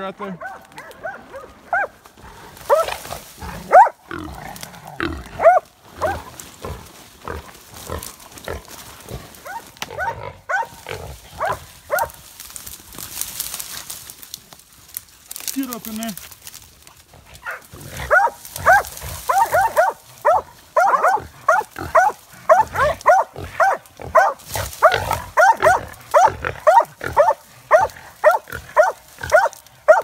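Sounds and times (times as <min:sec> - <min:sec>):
brush rustling: 0:00.0 - 0:30.0.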